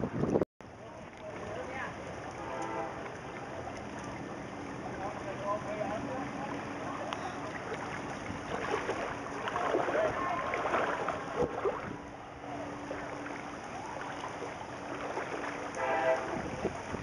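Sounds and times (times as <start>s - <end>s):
floodwater sloshing and splashing: 0.0s - 17.0s.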